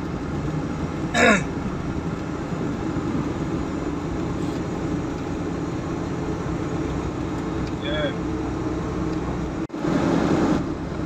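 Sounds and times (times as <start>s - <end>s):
engine and road noise in cabin: 0.0s - 11.0s.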